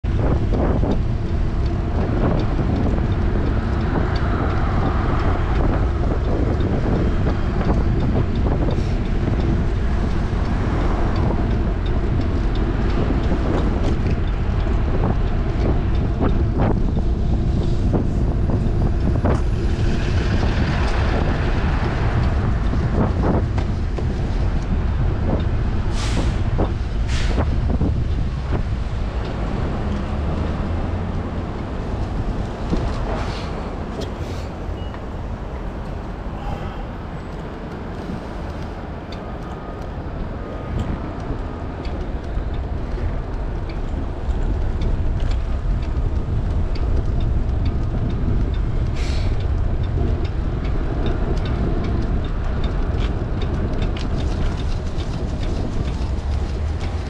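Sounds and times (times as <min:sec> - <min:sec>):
city traffic: 0:00.0 - 0:57.0
wind buffeting microphone: 0:00.0 - 0:57.0.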